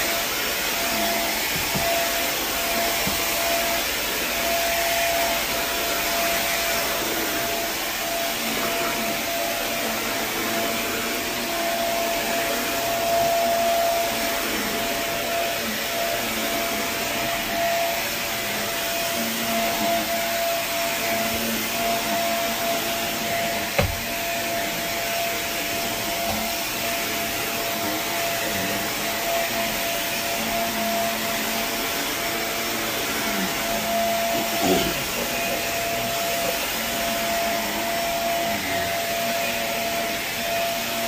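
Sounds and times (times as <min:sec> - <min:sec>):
carpet cleaning vacuum whining: 0:00.0 - 0:41.0.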